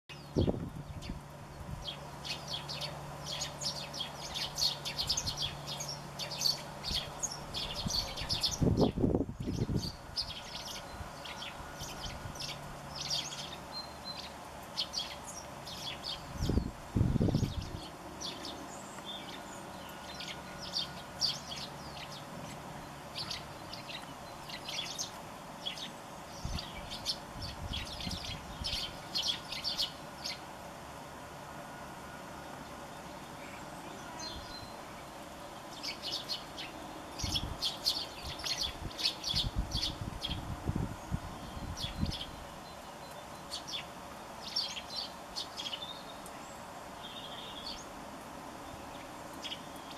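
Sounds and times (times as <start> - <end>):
sparrows chirping: 0.1 - 30.5, 32.6 - 49.9.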